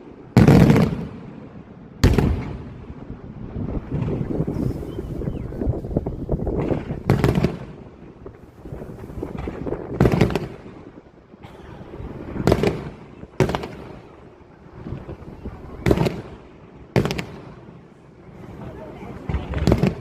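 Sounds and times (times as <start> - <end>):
fireworks bangs with echo: 0.0 - 20.0.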